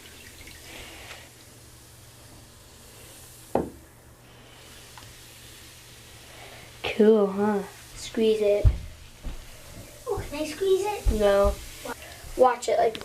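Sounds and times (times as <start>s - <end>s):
bath bomb fizzing in water: 0.0s - 12.4s.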